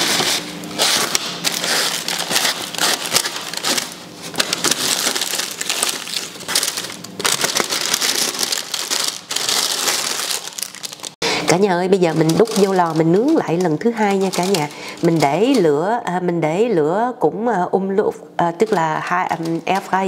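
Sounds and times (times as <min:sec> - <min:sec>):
foil and paper crinkling: 0:00.0 - 0:15.8, 0:18.6 - 0:20.0.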